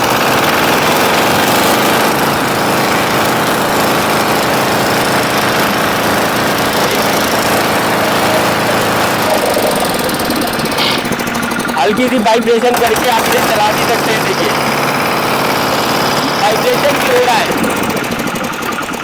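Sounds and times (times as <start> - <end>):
diesel engine running loud: 0.0 - 19.0
road roller drum vibrating: 0.0 - 19.0.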